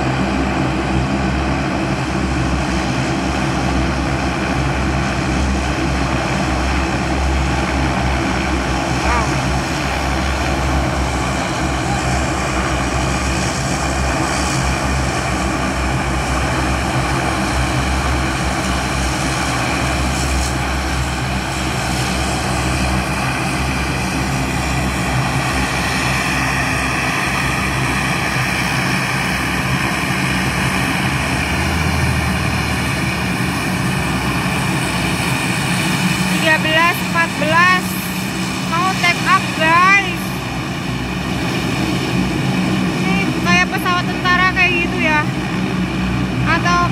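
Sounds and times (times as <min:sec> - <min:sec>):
turboprop engines droning: 0:00.0 - 0:46.9.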